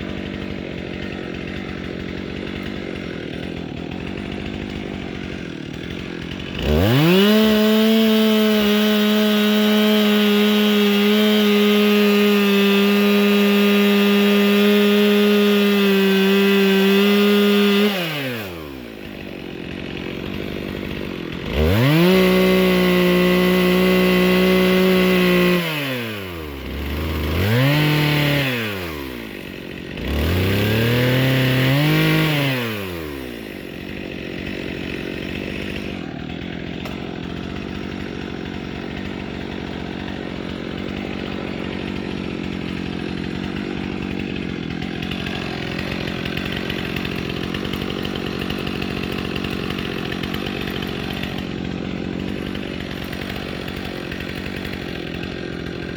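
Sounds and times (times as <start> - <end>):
chainsaw revving and idling: 0.0 - 55.9.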